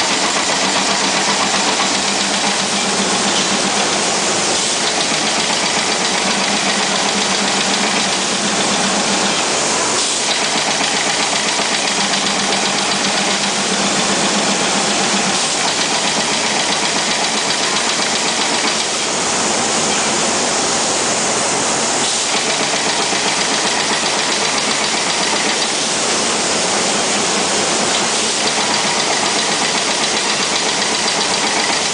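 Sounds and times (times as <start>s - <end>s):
welding machine running: 0.0s - 31.9s.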